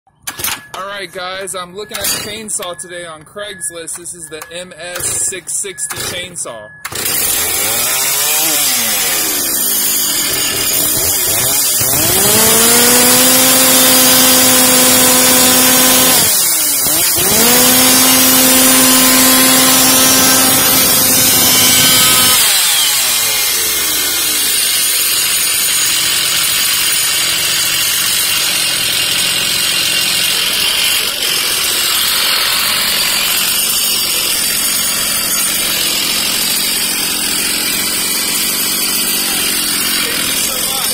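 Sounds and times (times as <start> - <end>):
chainsaw engine revving and idling: 5.0 - 40.9.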